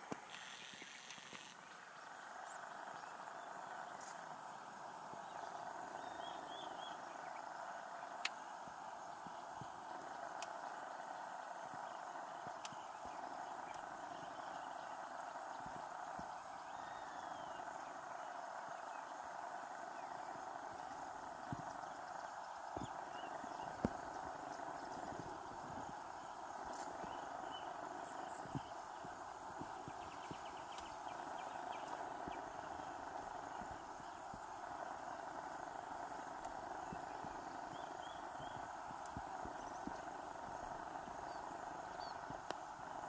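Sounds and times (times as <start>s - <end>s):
dense lower insect chorus: 0.0s - 43.0s
insects high-pitched drone: 0.0s - 43.0s.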